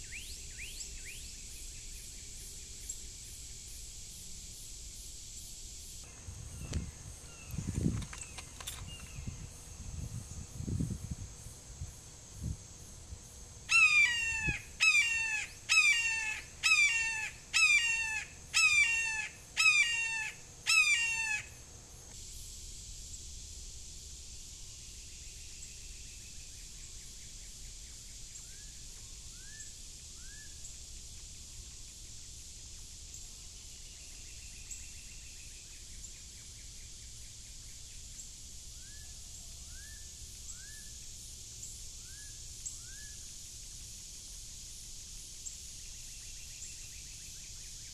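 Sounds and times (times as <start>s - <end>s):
high background hum: 0.0s - 47.9s.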